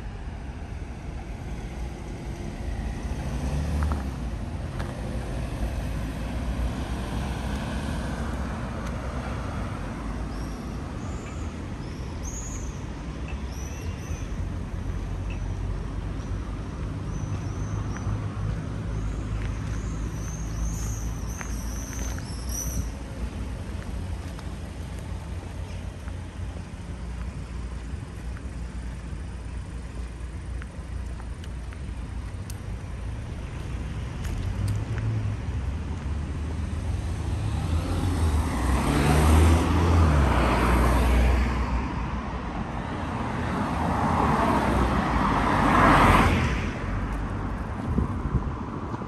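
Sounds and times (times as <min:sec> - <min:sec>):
cars passing: 0:00.0 - 0:49.0
low rumble of traffic: 0:00.0 - 0:49.0.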